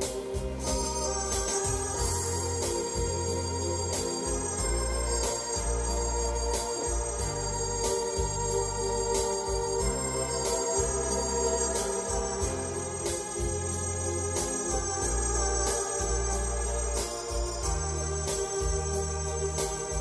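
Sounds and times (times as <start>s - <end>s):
bass line: 0.0s - 20.0s
organ playing a melody: 0.0s - 20.0s
steady drum beat: 0.0s - 20.0s.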